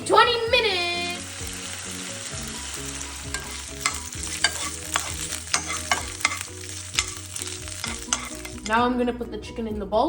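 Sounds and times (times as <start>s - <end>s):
chicken sizzling in hot oil: 0.1s - 8.8s.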